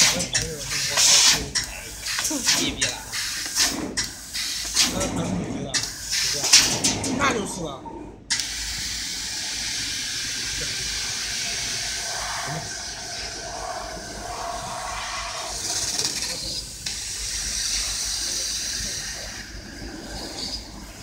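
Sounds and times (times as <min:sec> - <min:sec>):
laser cutter gas jet hissing: 0:00.0 - 0:05.2, 0:05.8 - 0:07.0, 0:08.3 - 0:20.8.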